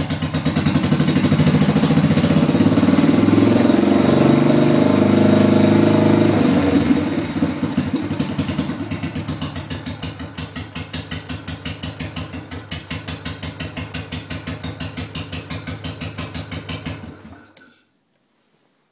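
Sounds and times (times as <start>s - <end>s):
motorcycle engine idling: 0.0s - 3.6s, 5.1s - 17.3s.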